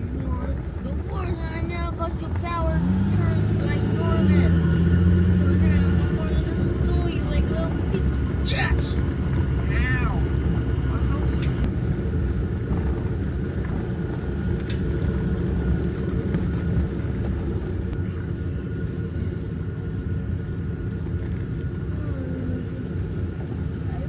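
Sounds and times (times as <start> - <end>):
vehicle engine and tyre drone: 0.0 - 24.0.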